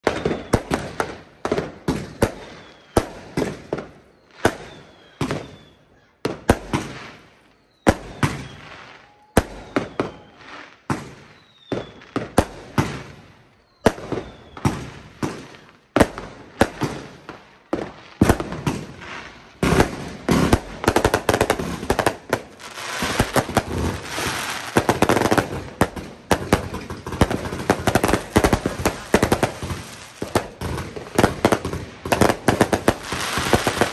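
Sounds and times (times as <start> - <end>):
crackle of explosions: 0.0 - 5.7, 7.9 - 33.9
fireworks bursting: 0.0 - 33.9.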